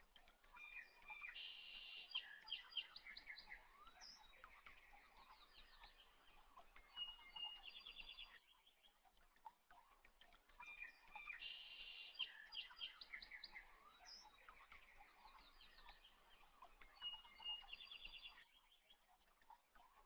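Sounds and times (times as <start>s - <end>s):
small birds chirping: 0.2s - 20.0s.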